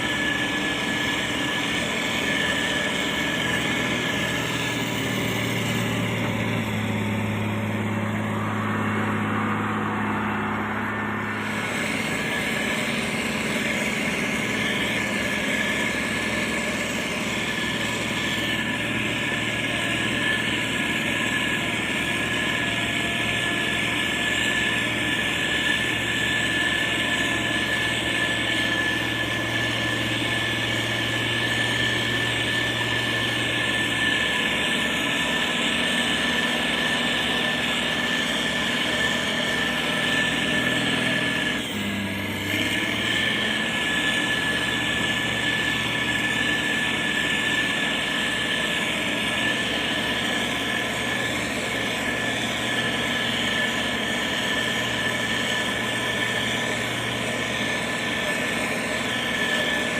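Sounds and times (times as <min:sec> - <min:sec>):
diesel engine running: 0:00.0 - 0:59.9
steady whine: 0:00.0 - 0:59.9.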